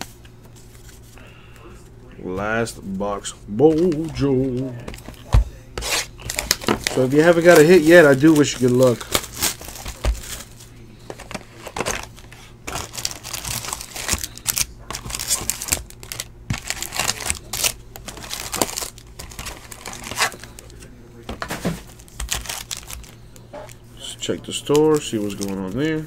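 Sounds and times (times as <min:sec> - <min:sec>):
card pack wrappers crinkling: 0:03.6 - 0:26.0.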